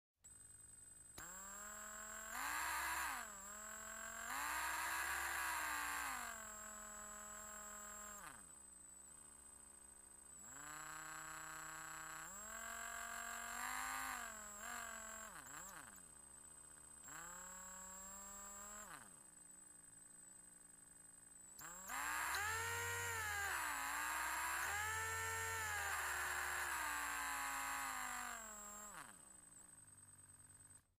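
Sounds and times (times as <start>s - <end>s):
electric drill motor whining: 1.1s - 8.5s, 10.4s - 19.2s, 21.6s - 30.8s.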